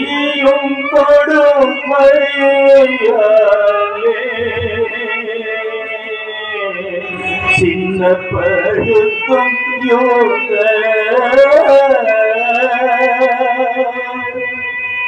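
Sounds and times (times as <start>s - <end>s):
man singing long held notes: 0.0s - 14.8s
musical accompaniment: 0.0s - 15.0s.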